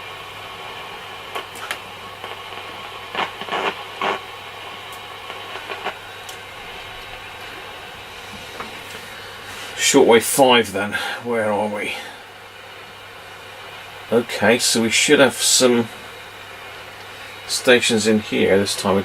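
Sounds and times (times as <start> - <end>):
faint steady hum: 0.0 - 19.0
radio static hiss: 0.0 - 19.0.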